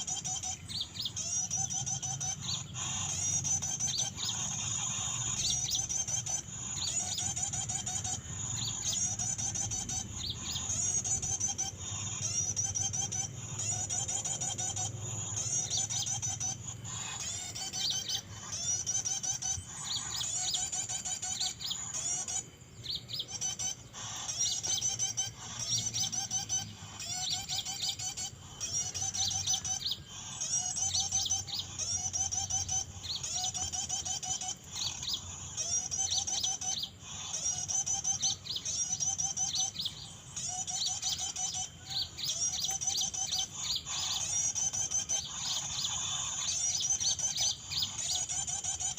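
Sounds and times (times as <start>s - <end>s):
songbird warbling: 0.0s - 48.9s.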